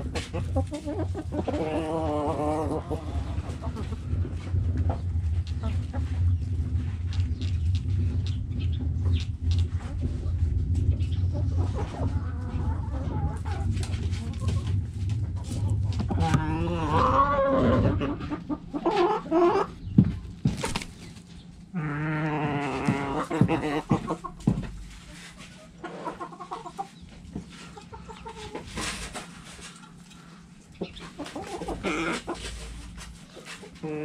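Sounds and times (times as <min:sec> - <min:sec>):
chickens clucking and calling: 0:00.0 - 0:34.0.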